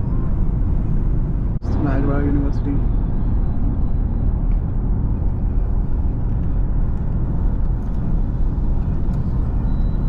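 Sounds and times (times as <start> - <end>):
car driving on road: 0.0 - 10.0.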